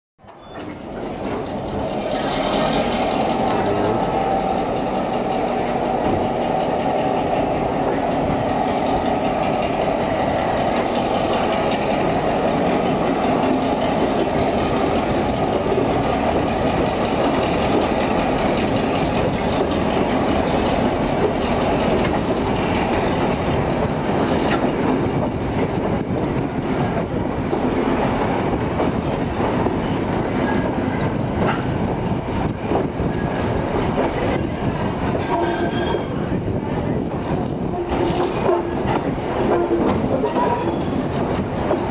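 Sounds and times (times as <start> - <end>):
rail joint clicks: 0.2 - 41.9
train wheels rumbling on track: 0.2 - 41.9.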